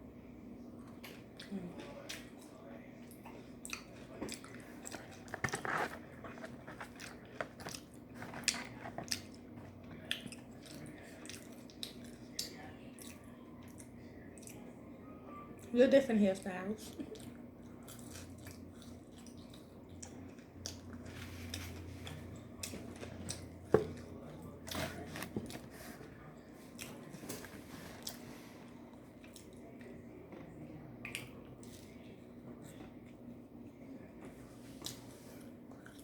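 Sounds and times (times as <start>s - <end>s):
faint low hum: 0.0s - 36.0s
person chewing food: 0.8s - 14.6s, 17.0s - 32.0s.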